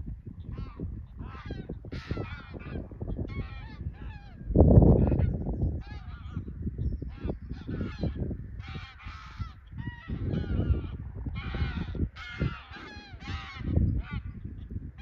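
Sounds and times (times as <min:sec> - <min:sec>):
geese honking in flight: 0:00.5 - 0:04.4, 0:05.0 - 0:06.5, 0:07.1 - 0:14.4.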